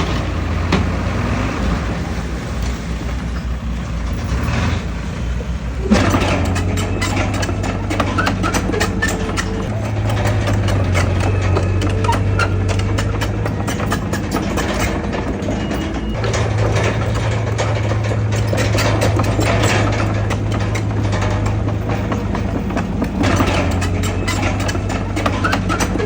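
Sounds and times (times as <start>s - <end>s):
heavy diesel engine running: 0.0s - 26.0s
metallic clanks and rattles: 2.6s - 26.0s.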